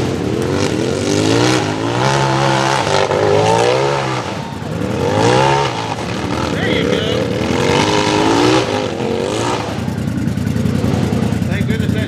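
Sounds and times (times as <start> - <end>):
engine revving hard: 0.0 - 12.0.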